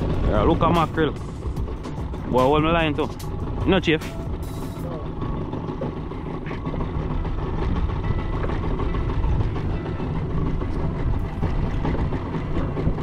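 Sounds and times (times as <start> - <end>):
outboard motor humming: 0.0 - 13.0
sea water washing: 0.0 - 13.0.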